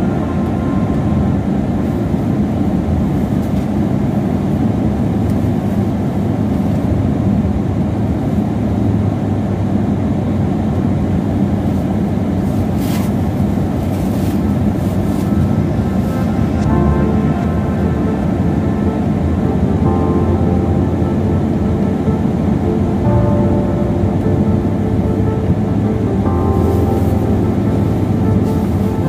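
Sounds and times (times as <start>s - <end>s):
car cabin rumble: 0.0s - 29.0s.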